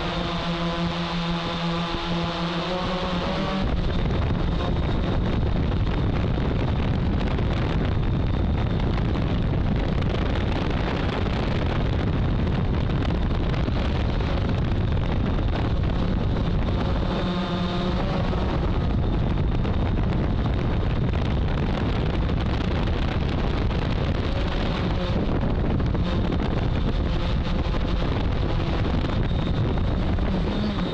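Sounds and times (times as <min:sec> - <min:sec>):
drone motors and propellers: 0:00.0 - 0:30.9
wind buffeting microphone: 0:00.0 - 0:30.9.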